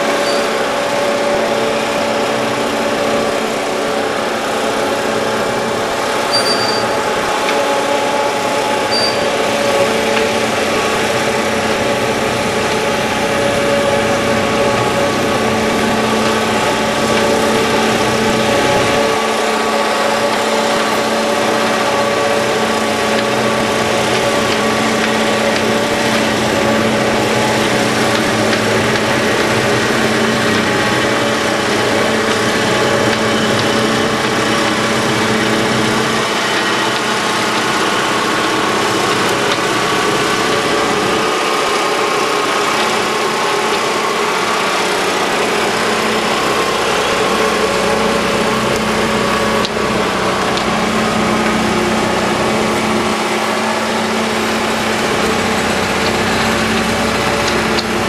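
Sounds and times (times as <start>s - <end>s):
trailer engine humming: 0.0s - 58.0s.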